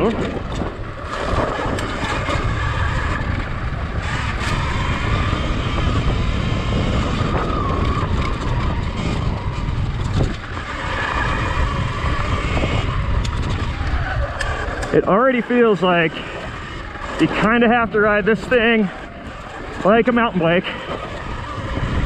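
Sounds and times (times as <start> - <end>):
electric motor whine: 0.0 - 22.0
wind rumble on camera: 0.0 - 22.0.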